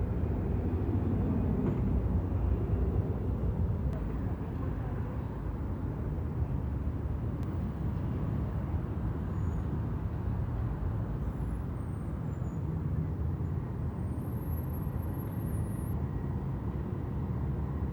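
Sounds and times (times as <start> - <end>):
traffic rumble: 0.0 - 17.9.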